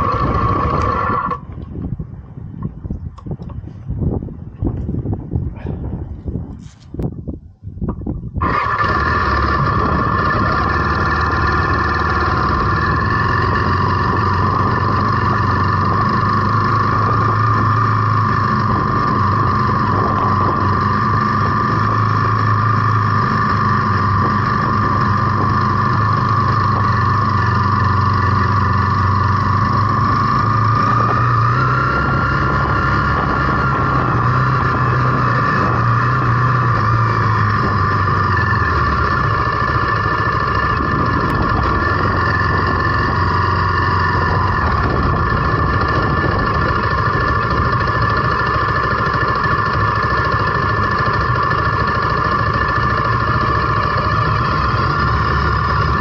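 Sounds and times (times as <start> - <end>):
motorcycle engine running: 0.0 - 56.0
wind noise: 0.0 - 56.0.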